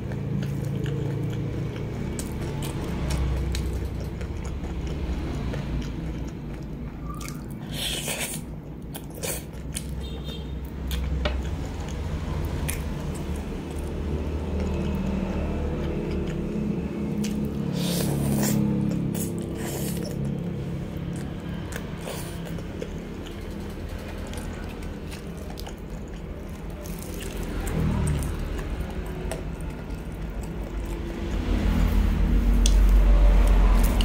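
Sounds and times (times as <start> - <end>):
wet chewing: 0.0 - 34.0.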